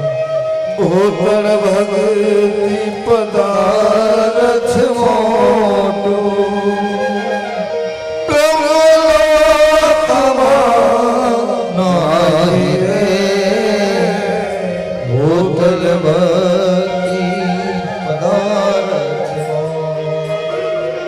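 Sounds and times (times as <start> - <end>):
instrumental drone: 0.0 - 21.0
man singing devotional melody: 0.0 - 21.0.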